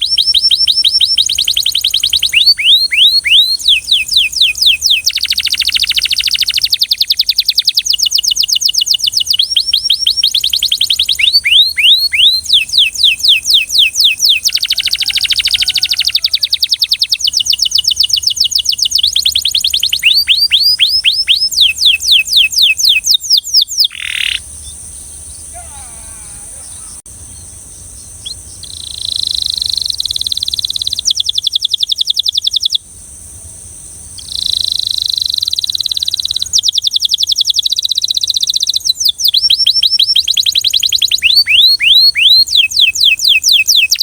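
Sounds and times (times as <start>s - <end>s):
canary singing: 0.0s - 32.8s, 34.2s - 44.0s.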